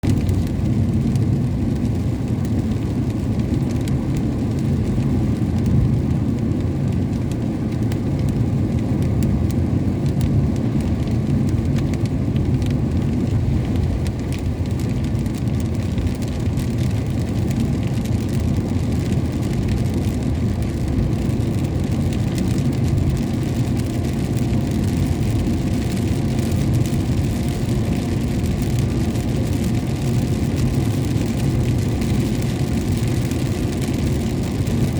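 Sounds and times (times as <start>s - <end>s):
rain ticks: 0.0s - 34.9s
vehicle engine and road noise: 0.0s - 34.9s.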